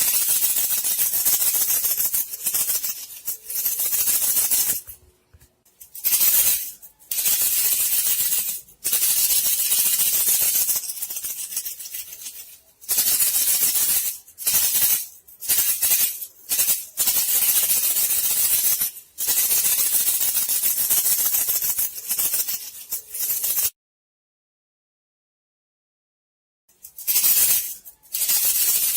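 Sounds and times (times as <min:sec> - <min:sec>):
rattling hissing shaker: 0:00.0 - 0:05.0, 0:05.7 - 0:23.7, 0:26.7 - 0:28.9.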